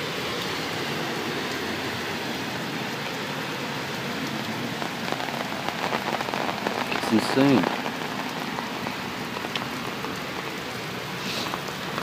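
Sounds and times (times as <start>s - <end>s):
car tyres spraying through water: 0.0s - 12.0s
heavy rain pouring: 0.0s - 12.0s.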